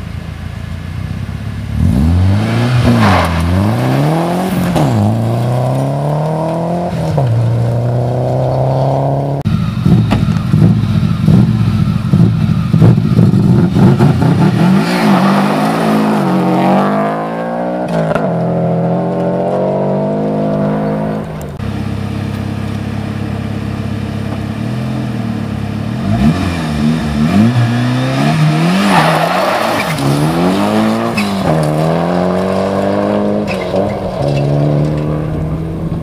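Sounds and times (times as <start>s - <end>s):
rally car engine revving: 1.6s - 36.0s.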